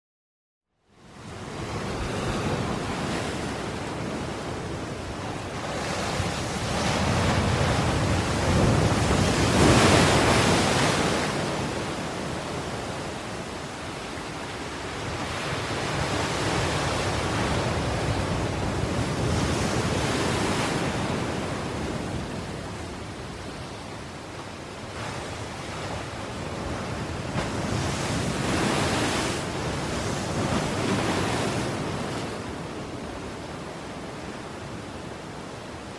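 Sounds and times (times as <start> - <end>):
ocean waves breaking: 1.0 - 35.9.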